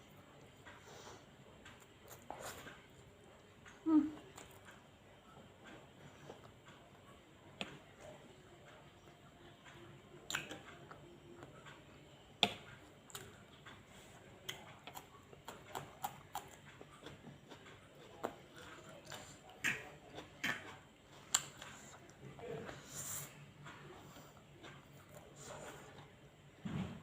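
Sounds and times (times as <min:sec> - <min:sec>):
person chewing food: 0:00.1 - 0:09.1, 0:10.2 - 0:26.2.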